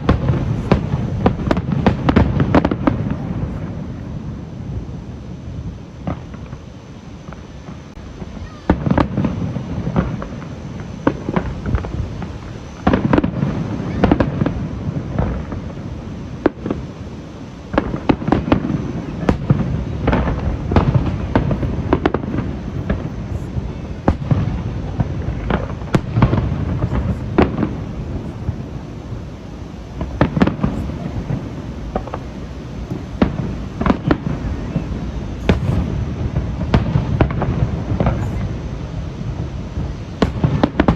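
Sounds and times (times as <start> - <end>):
fireworks bursts and crackling: 0.0 - 40.9
low rumble of booms: 0.0 - 40.9.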